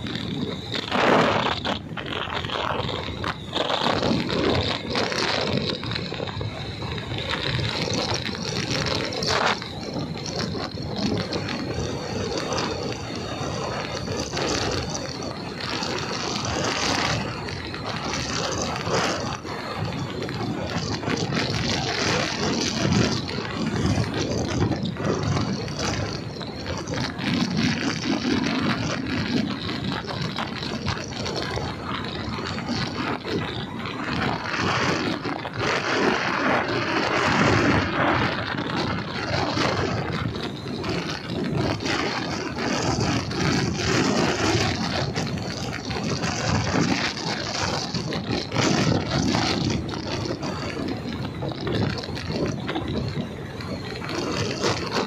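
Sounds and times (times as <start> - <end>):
tyre noise on road: 0.0 - 55.0
wind buffeting microphone: 0.0 - 55.0.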